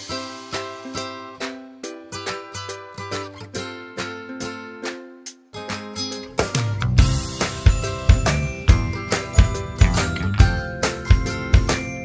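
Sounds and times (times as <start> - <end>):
upbeat plucked string music: 0.0 - 12.0.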